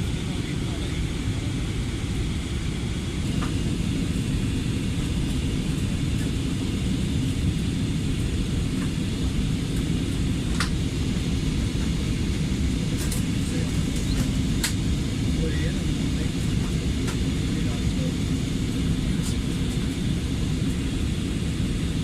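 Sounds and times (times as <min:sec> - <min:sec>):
airflow and engine rumble in cabin: 0:00.0 - 0:22.0.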